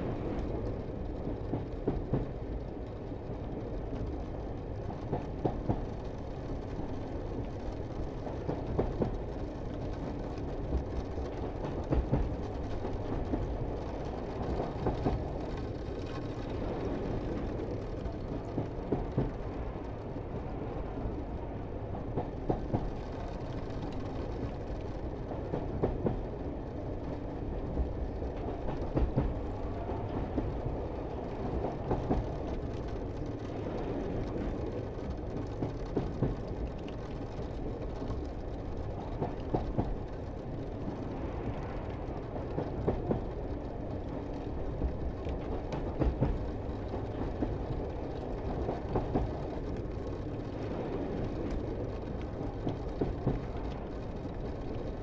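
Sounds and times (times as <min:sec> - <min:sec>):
cog railway train rumbling: 0:00.0 - 0:55.0.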